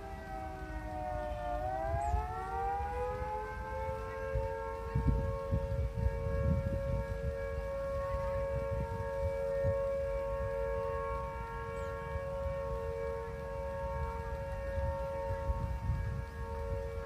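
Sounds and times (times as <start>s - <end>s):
siren steady wail: 0.0s - 17.0s.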